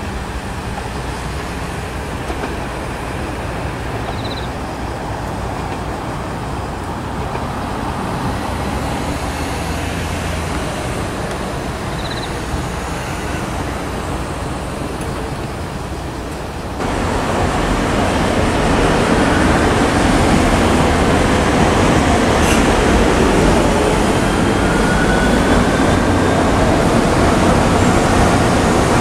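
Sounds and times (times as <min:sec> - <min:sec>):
approaching train rumble: 0:00.0 - 0:29.0
road traffic noise: 0:00.0 - 0:29.0.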